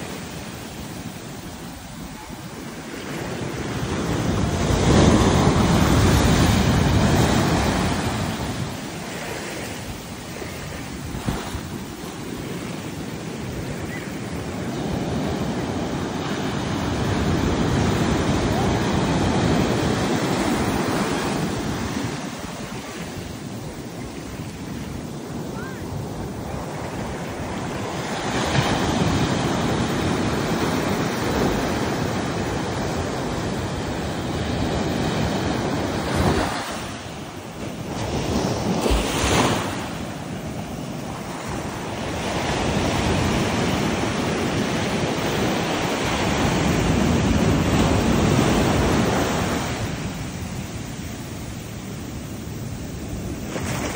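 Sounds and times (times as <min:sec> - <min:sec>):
surf breaking on a beach: 0:00.0 - 0:53.9
wind on the microphone: 0:00.0 - 0:53.9.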